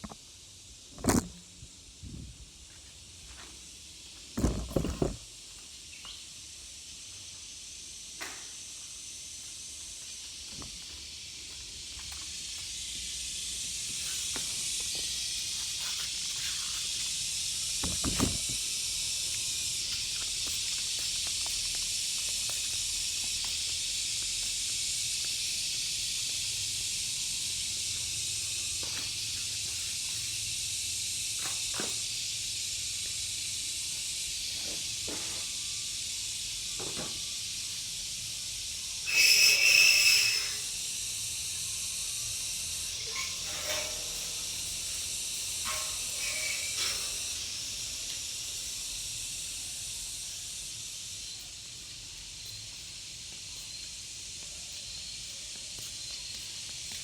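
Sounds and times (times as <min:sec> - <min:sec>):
steady hissing: 0:00.0 - 0:57.0.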